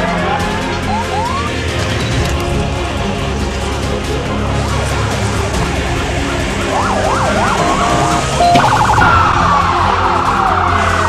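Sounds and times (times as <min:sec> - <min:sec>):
emergency vehicle sirens wailing: 0:00.0 - 0:02.2, 0:02.9 - 0:11.0.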